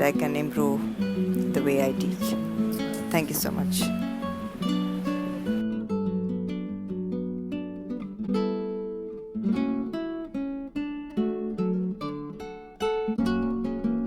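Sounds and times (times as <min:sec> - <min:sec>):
acoustic guitar tune: 0:00.0 - 0:14.0.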